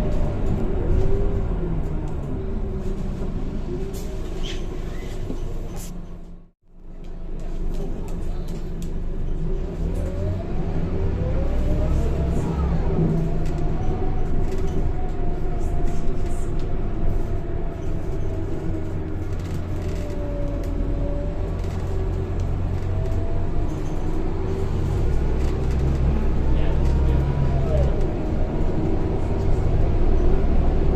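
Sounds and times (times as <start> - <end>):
bus engine rumble: 0.0 - 30.9.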